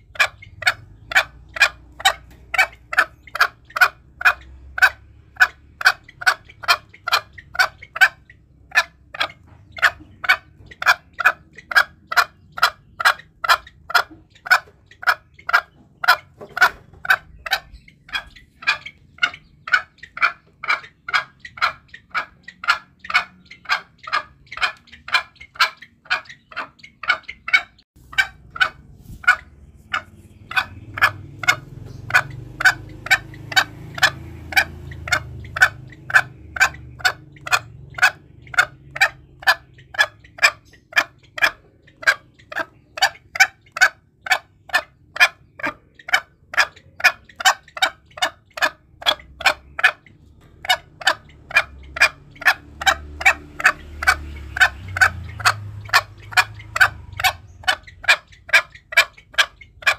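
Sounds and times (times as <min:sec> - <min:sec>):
junglefowl calling: 0:00.0 - 0:59.9.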